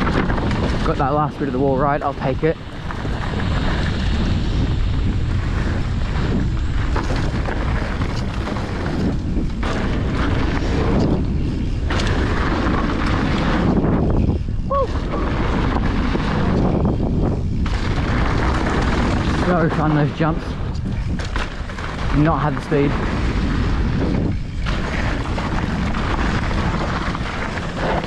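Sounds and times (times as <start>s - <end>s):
tyres rumbling on dirt: 0.0s - 28.0s
wind buffeting microphone: 0.0s - 28.0s.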